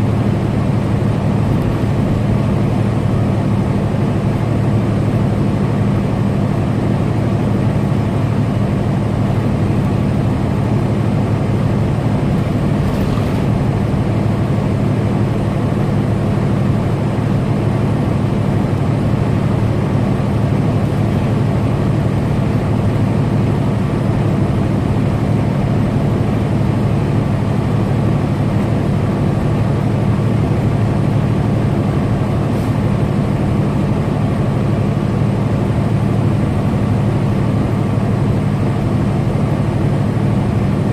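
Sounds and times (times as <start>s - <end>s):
road noise: 0.0s - 38.9s
truck engine drone: 0.0s - 40.9s.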